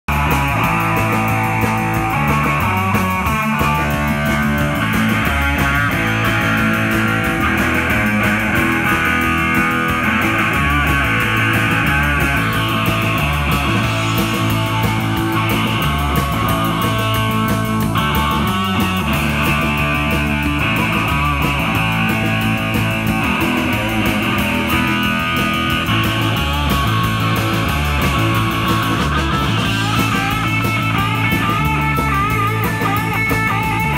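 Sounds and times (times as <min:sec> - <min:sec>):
drum kit: 0:00.0 - 0:33.9
electric bass: 0:00.0 - 0:33.9
electric guitar: 0:00.0 - 0:33.9.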